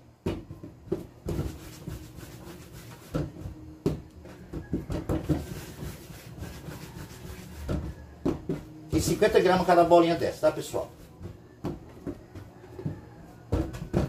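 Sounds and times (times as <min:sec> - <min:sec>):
hands rubbing dough: 0:00.5 - 0:14.0.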